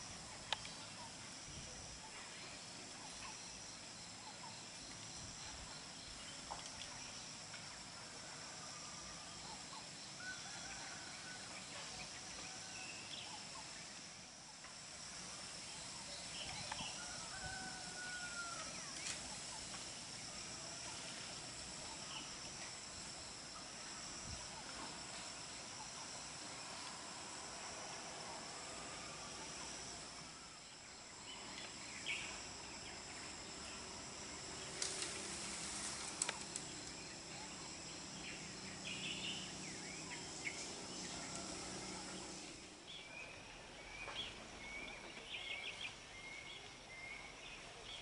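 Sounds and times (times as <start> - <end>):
insect trilling: 0.0 - 43.2.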